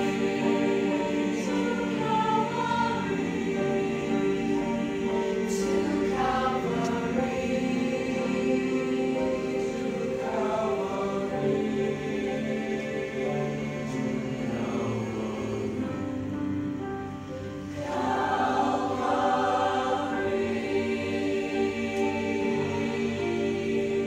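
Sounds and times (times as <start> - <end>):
choir singing long-held chords: 0.0 - 24.0.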